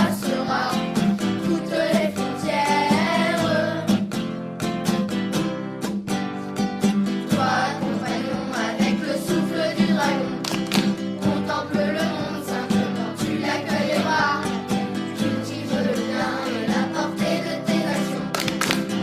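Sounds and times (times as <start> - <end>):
strummed acoustic guitar with beat: 0.0 - 19.0.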